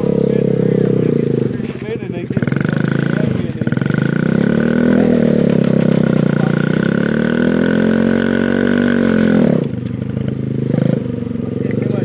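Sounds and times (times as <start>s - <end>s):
minibike small engine running: 0.0s - 12.0s.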